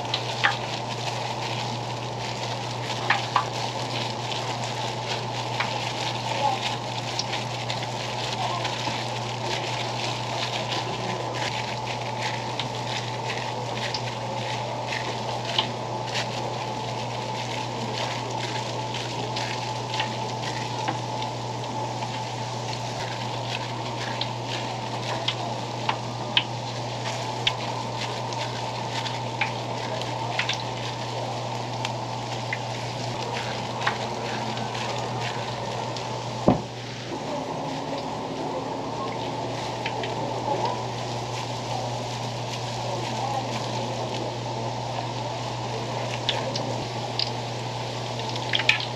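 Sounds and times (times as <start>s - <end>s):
sharp popping of frying oil: 0.0s - 36.8s, 46.0s - 48.9s
hot oil sizzling: 0.0s - 48.9s
steady low hum: 0.0s - 48.9s.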